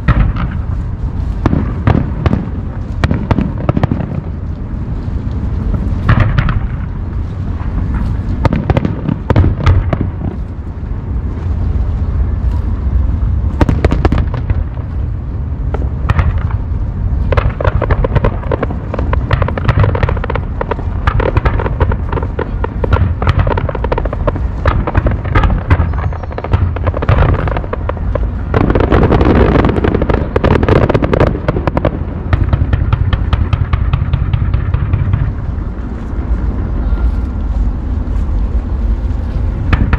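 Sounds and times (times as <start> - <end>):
deep rumble of fireworks booms: 0.0 - 39.9
fireworks crackling and banging: 0.0 - 39.9.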